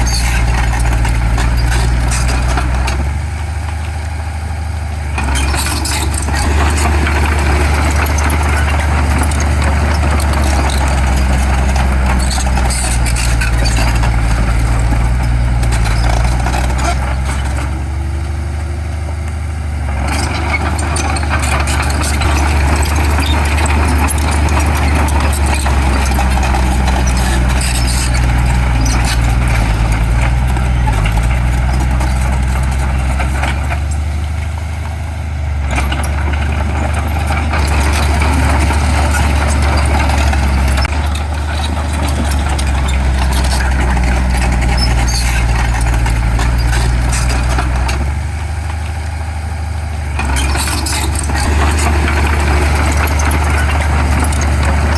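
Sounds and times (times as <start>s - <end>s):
diesel machinery engine: 0.0s - 54.9s
machinery clatter: 0.0s - 54.9s.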